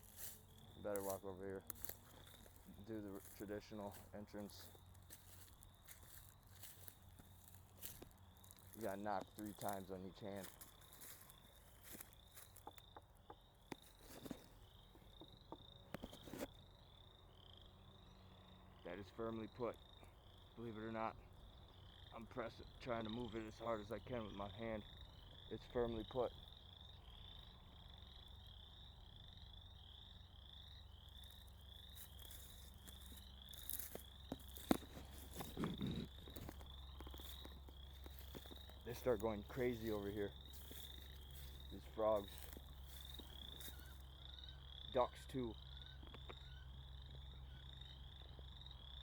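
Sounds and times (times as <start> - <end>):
chorus of frogs calling: 0.0 - 49.0.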